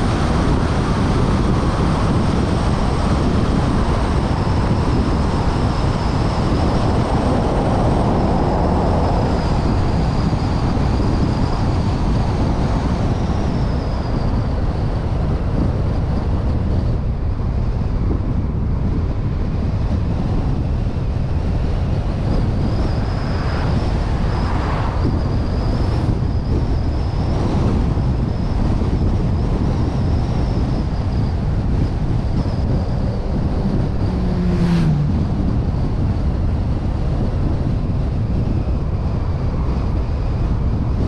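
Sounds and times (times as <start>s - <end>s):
road and engine noise: 0.0s - 41.0s
wind rushing over microphone: 0.0s - 41.0s.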